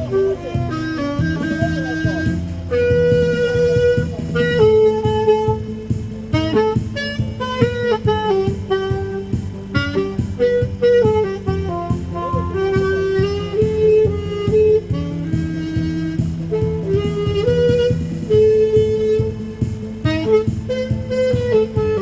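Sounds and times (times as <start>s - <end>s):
backing track with drum beat: 0.0s - 22.0s
saxophone slow melody: 0.0s - 22.0s.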